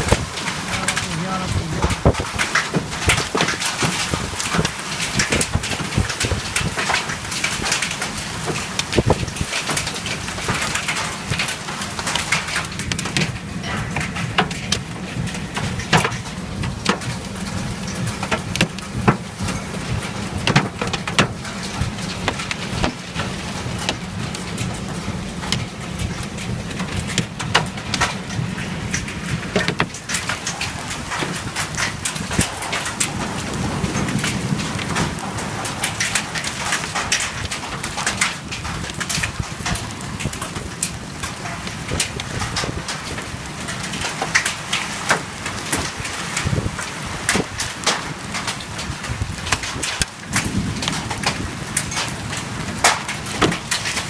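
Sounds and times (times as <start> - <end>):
hailstones hitting hard surface: 0.0 - 54.0
rain hissing: 0.0 - 54.0.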